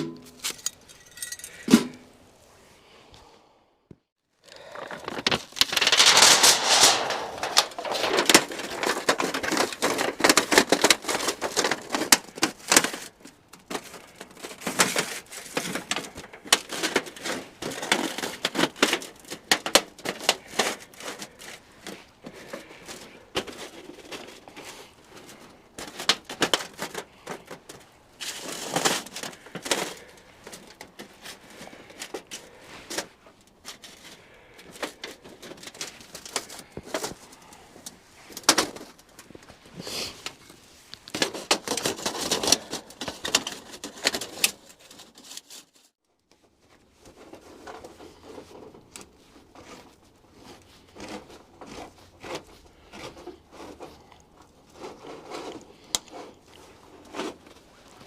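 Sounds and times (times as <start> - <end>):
crackling handling noise: 4.4 - 58.0.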